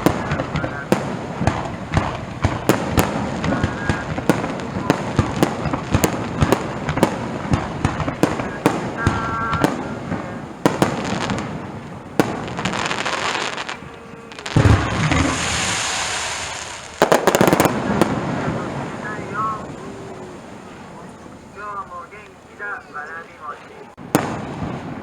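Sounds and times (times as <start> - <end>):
heavy firework boom: 0.0 - 20.7, 24.0 - 25.0
fireworks bangs and crackles: 0.0 - 23.1, 24.0 - 25.0.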